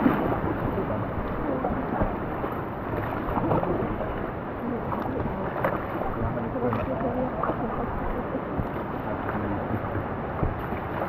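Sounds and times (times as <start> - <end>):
water splashes: 0.0 - 11.0
wind buffeting microphone: 0.0 - 11.0.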